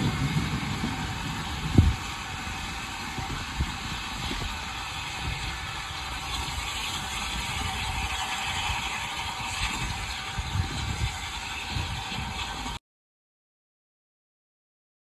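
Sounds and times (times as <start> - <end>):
steam train hissing: 0.0 - 12.8
wind rumbling on microphone: 0.0 - 12.8.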